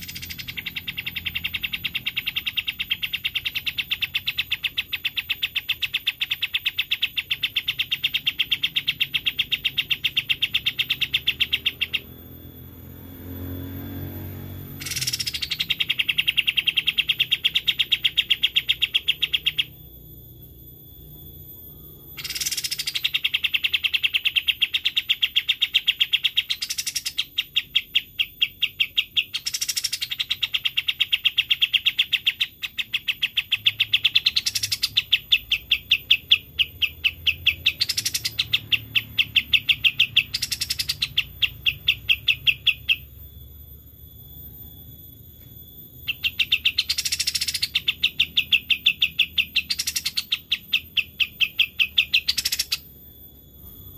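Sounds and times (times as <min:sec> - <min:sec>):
bird trilling: 0:00.0 - 0:53.9.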